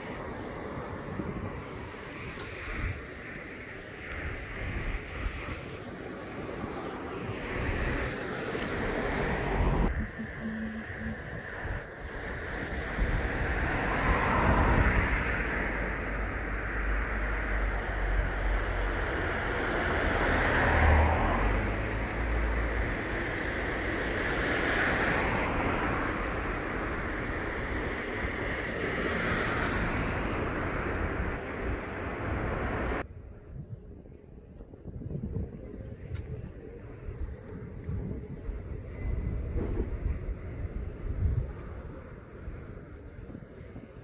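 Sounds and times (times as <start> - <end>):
wind buffeting microphone: 0.0 - 21.8, 22.6 - 44.0
road traffic: 0.0 - 44.0.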